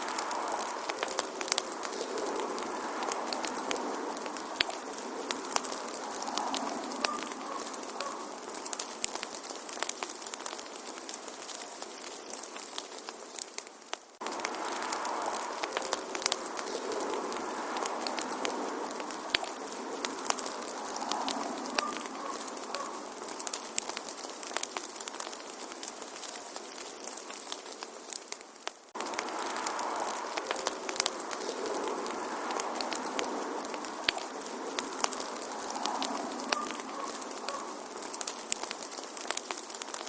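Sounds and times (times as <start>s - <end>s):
sharp pops of fire: 0.0s - 40.0s
wood fire crackling: 0.0s - 40.0s.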